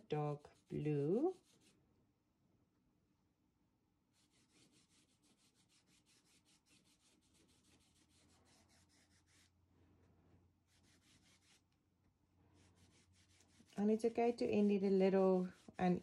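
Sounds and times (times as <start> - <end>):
paintbrush rubbing on fabric: 0.0 - 1.8, 4.1 - 11.8, 12.5 - 16.0.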